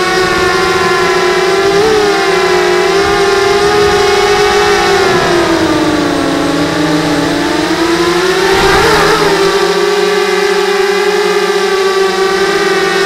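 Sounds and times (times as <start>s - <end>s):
drone propellers whining: 0.0s - 12.8s.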